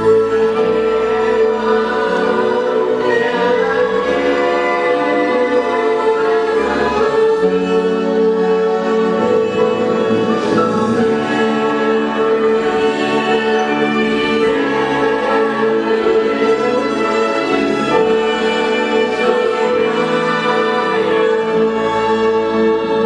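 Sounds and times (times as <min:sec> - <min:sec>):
choir-like voices: 0:00.0 - 0:23.0
orchestral strings holding chords: 0:00.0 - 0:23.0.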